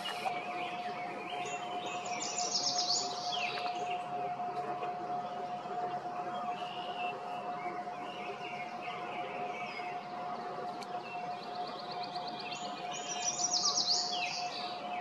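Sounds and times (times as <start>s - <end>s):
faint steady hum: 0.0s - 15.0s
songbirds chirping: 0.0s - 15.0s.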